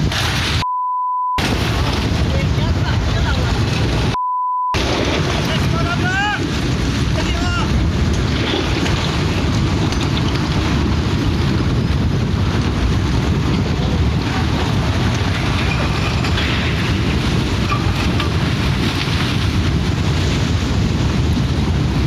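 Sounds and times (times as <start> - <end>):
wind buffeting microphone: 1.4 - 4.2, 4.8 - 22.0.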